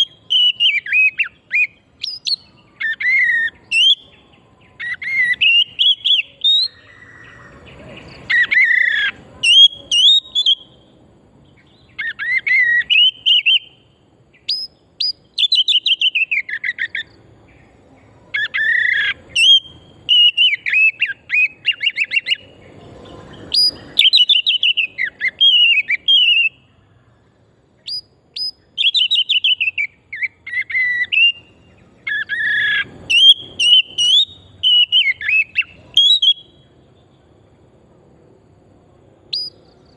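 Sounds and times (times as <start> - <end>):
bird singing whistles and trills: 0.0 - 37.3, 39.3 - 39.9.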